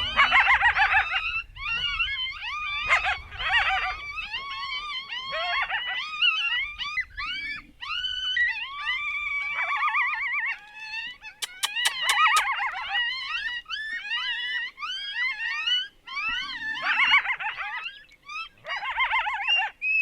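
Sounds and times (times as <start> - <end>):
coyotes howling and yipping: 0.0 - 20.0.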